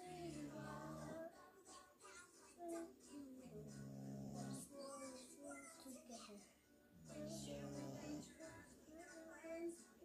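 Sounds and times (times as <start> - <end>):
faint music with singing: 0.0 - 10.0.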